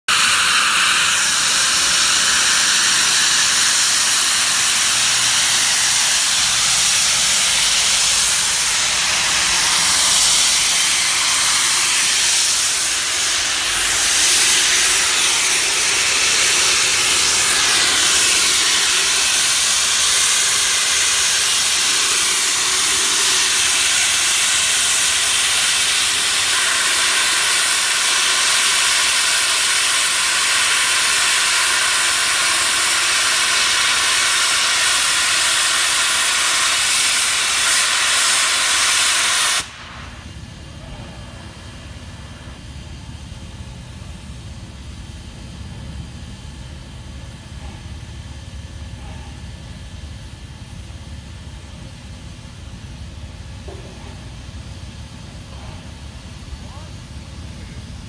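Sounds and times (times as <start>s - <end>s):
steam venting hiss: 0.1s - 58.0s.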